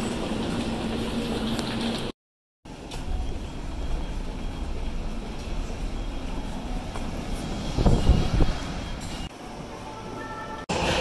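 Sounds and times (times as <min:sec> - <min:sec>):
station platform ambience: 0:00.0 - 0:02.1, 0:02.7 - 0:11.0.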